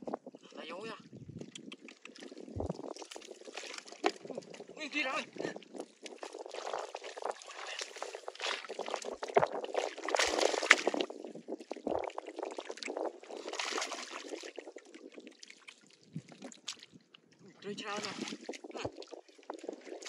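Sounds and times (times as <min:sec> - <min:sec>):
hands splashing muddy water: 0:01.4 - 0:04.6, 0:05.6 - 0:17.0, 0:18.0 - 0:20.0.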